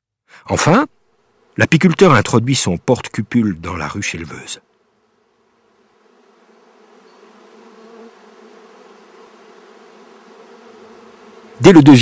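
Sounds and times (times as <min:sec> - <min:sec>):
honeybees humming: 0:00.4 - 0:12.0.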